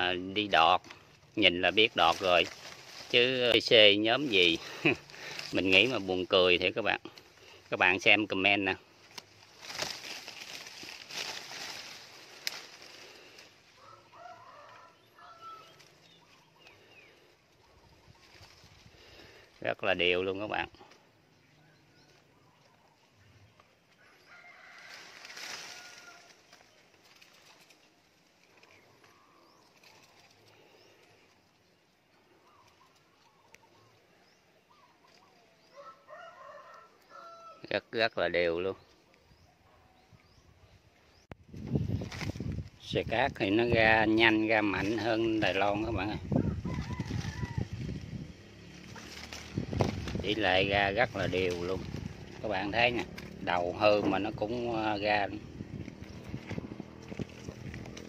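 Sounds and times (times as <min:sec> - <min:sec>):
birds chirping: 0:00.0 - 0:37.5, 0:38.1 - 0:58.0
distant chickens calling: 0:00.0 - 0:37.6, 0:43.7 - 0:58.0.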